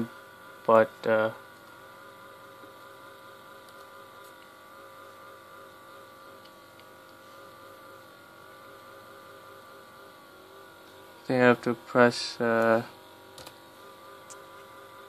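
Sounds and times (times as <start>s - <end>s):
laptop whir and hum: 0.0s - 15.0s.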